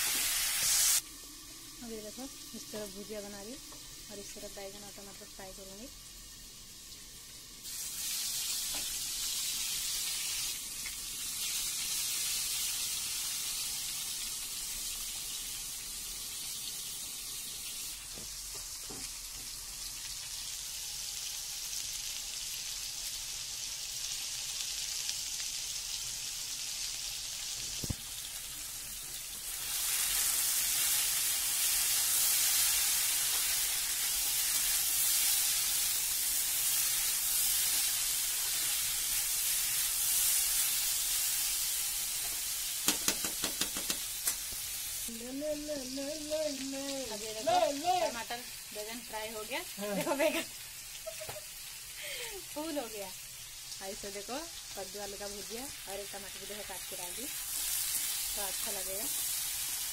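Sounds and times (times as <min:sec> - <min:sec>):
vegetables sizzling in hot oil: 0:00.0 - 0:59.9.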